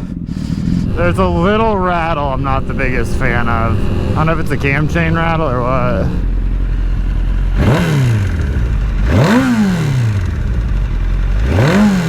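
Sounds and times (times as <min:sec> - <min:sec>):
engine rattle: 0:00.0 - 0:12.0
motorcycle engine revving: 0:00.0 - 0:12.0.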